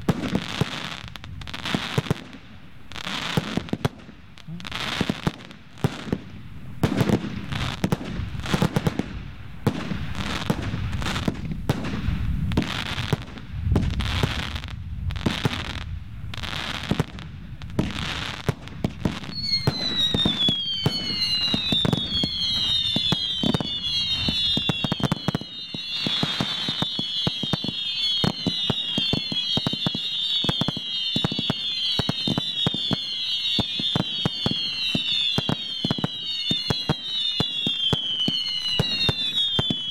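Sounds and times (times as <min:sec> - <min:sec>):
firework bangs: 0:00.0 - 0:39.9
fireworks crackling: 0:00.0 - 0:39.9
whistling fireworks: 0:00.0 - 0:39.9.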